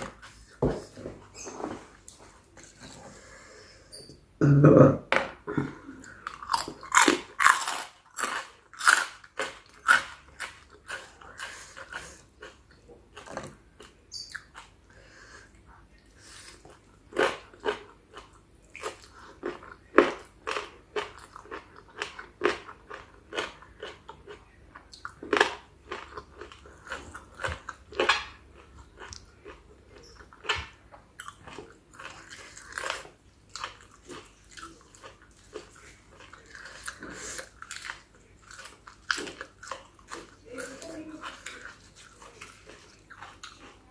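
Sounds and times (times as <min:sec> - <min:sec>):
person chewing crunchy food: 0:05.6 - 0:43.9.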